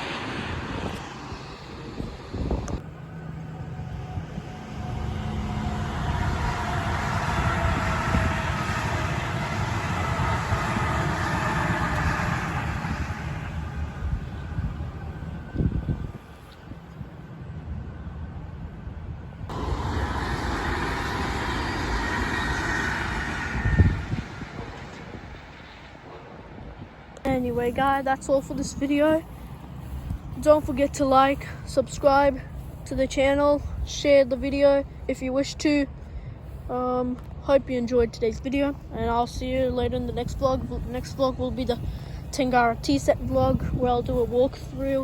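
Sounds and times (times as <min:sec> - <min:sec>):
faint steady whine: 0:00.0 - 0:45.0
train rumble: 0:00.0 - 0:45.0.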